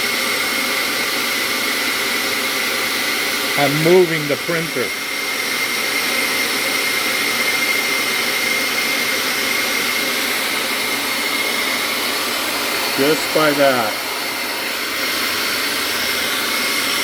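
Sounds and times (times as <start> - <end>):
shop vacuum whining: 0.0 - 17.0.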